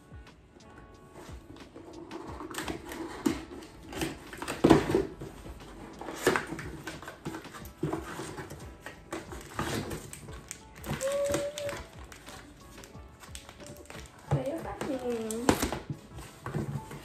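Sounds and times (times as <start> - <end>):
packing paper rustling: 1.2 - 17.0.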